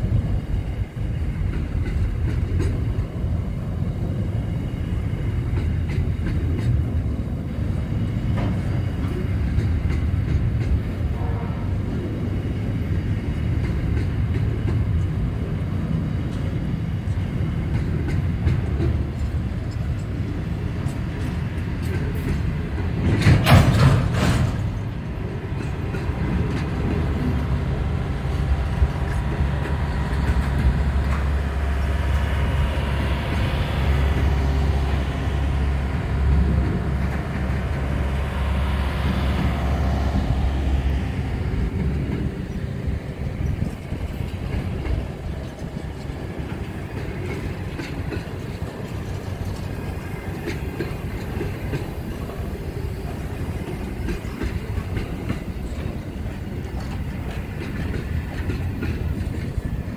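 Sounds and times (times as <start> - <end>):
train wagons rattling on rails: 0.0 - 59.9.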